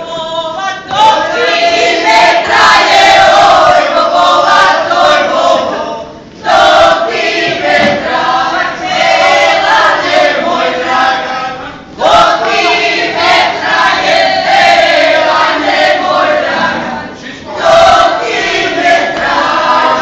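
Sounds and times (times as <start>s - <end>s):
group of women singing unaccompanied: 0.0s - 20.0s.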